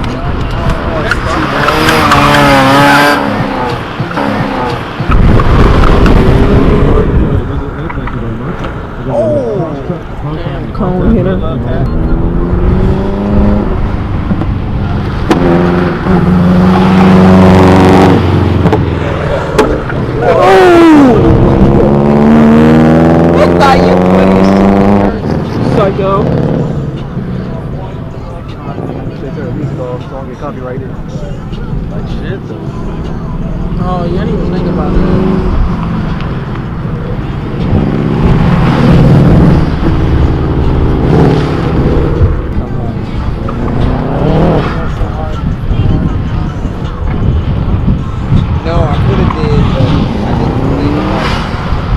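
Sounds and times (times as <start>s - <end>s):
car engine pulling hard: 0.0s - 30.6s, 33.6s - 51.9s.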